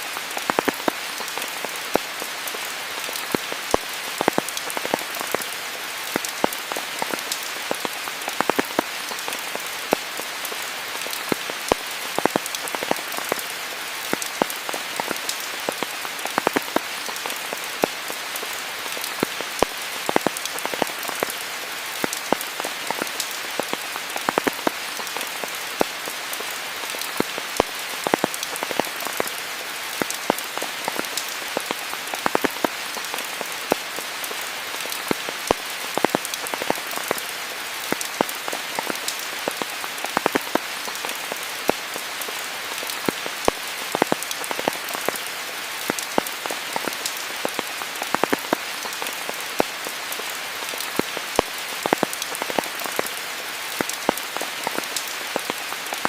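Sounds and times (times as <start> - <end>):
sharp raindrops striking nearby: 0.0 - 56.0
steady rain hiss: 0.0 - 56.0.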